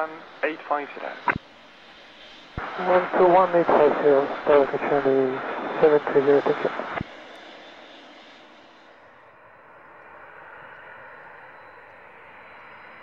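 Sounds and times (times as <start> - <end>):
jet engines running at low power: 0.0 - 13.0.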